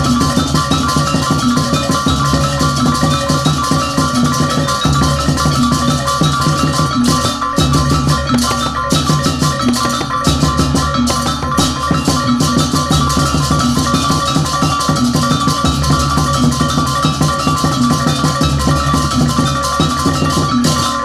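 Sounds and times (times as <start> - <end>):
fast barrel drumming: 0.0 - 21.0
steady held tones: 0.0 - 21.0.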